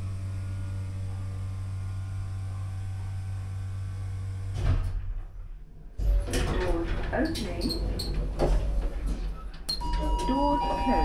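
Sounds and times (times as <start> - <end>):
lift electrical hum: 0.0 - 11.0.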